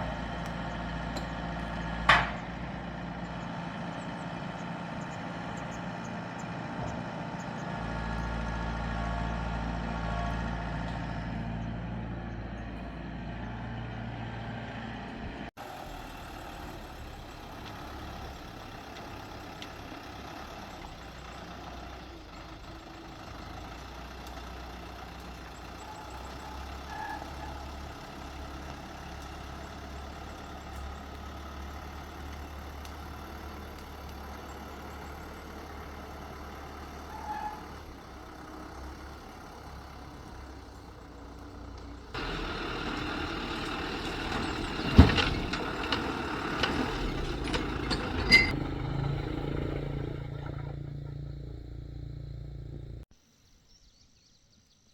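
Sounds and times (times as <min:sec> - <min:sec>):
heavy vehicle engine running: 0:00.0 - 0:53.1.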